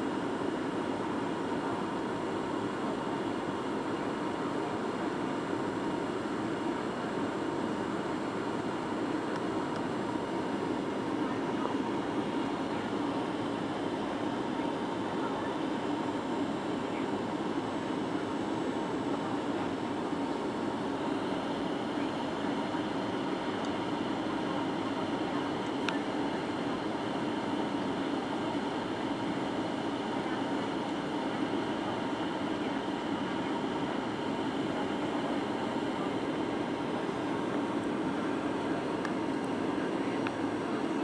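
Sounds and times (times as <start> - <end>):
airplane cabin airflow and engine noise: 0.0 - 41.0
faint steady whine: 0.0 - 41.0.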